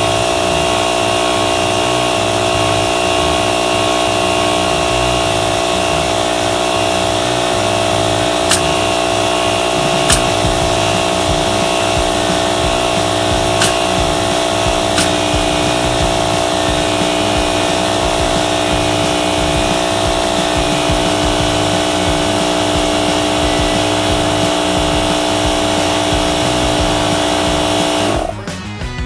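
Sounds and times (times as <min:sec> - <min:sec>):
motor-driven machine running: 0:00.0 - 0:28.5.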